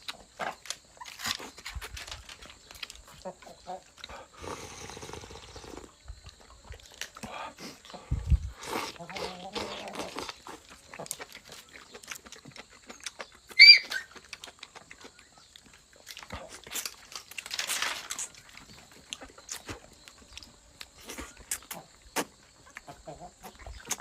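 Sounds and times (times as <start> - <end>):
person chewing: 3.9 - 24.0.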